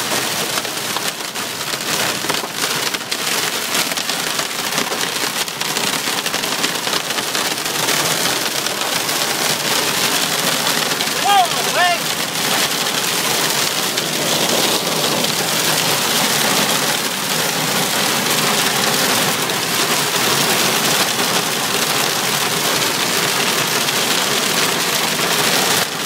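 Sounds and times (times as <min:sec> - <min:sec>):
hail drumming on car roof: 0:00.0 - 0:26.0.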